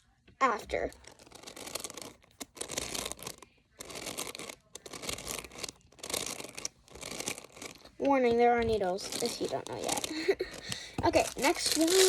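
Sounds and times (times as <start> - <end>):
squishy toy crunching: 0.4 - 12.0.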